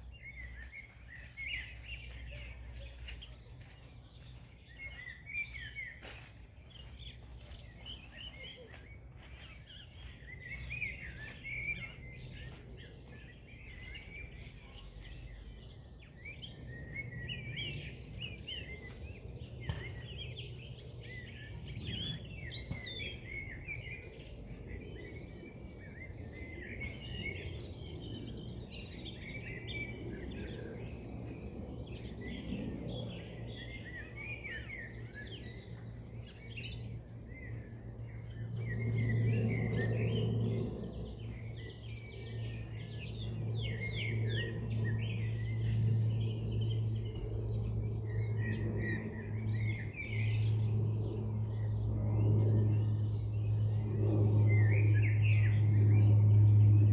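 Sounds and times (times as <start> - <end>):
birds chirping and warbling: 0.0 - 56.9
low background hum: 0.0 - 56.9.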